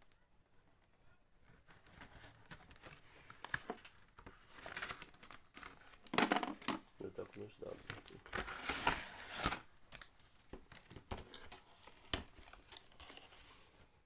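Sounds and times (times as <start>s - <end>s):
cardboard and plastic packaging rustling: 1.3s - 14.0s
plastic crinkling: 1.4s - 13.8s.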